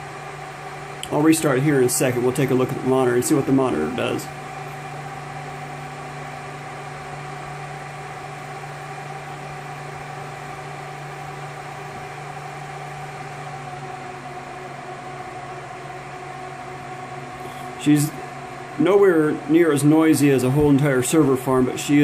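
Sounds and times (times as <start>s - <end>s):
server cooling fans running: 0.0s - 22.0s.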